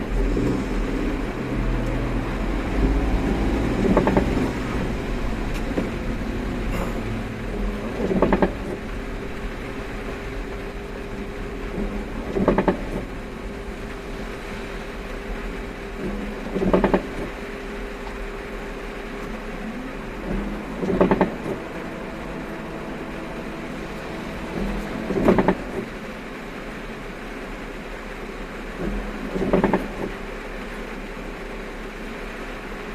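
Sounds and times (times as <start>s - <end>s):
car engine hum: 0.0s - 32.9s
road noise: 0.0s - 32.9s
windshield wipers sweeping: 0.0s - 32.9s.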